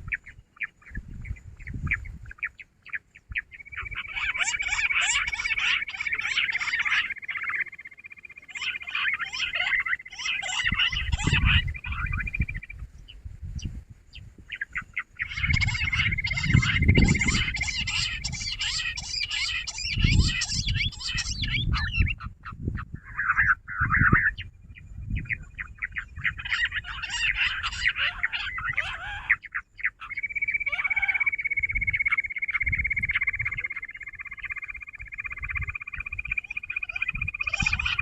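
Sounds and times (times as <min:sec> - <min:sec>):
quail chattering calls: 0:00.0 - 0:12.9, 0:14.5 - 0:38.0.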